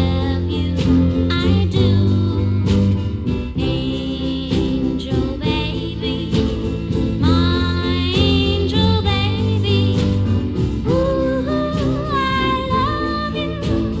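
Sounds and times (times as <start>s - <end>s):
guitar-led band: 0.0s - 14.0s
woman singing: 0.0s - 14.0s.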